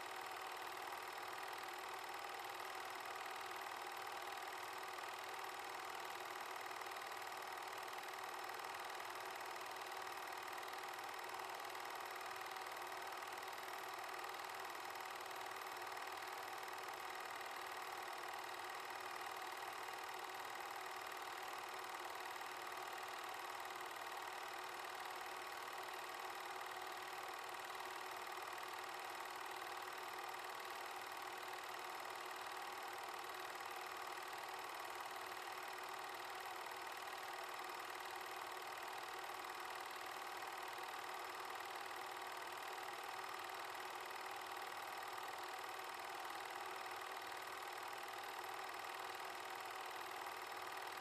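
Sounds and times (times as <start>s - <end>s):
film projector whirring: 0.0s - 51.0s.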